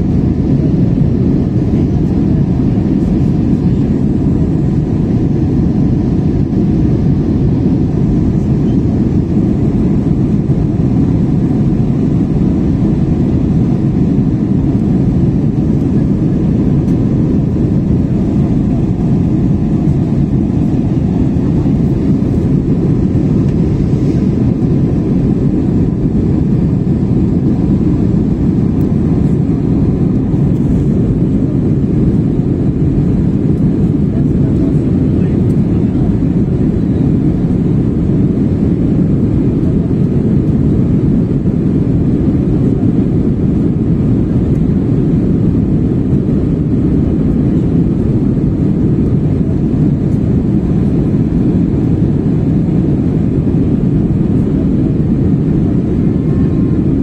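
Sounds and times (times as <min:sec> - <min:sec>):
jet airliner cabin roar: 0:00.0 - 0:57.0.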